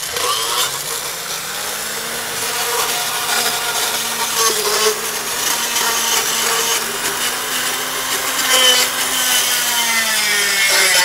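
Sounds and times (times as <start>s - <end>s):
gritty grinding on teeth: 0.0s - 11.0s
motor hum: 0.0s - 11.0s.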